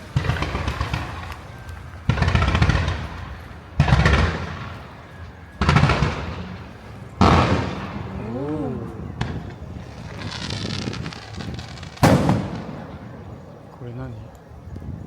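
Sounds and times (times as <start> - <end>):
firework shells booming: 0.0 - 14.4
firework crackle and rumble: 0.0 - 15.0.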